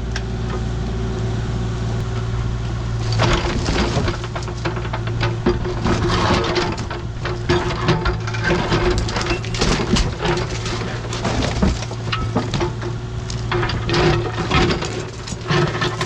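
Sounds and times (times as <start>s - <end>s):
diesel engine running: 0.0s - 16.0s
clanks and knocks of stone: 3.0s - 16.0s.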